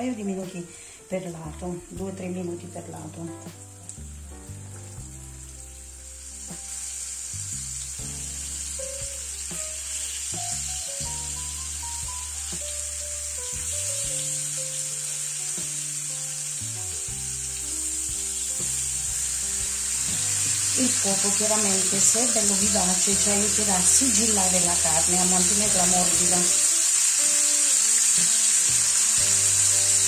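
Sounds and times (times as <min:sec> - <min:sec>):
soft background music: 0:00.0 - 0:30.0
meat sizzling in oil: 0:03.4 - 0:30.0.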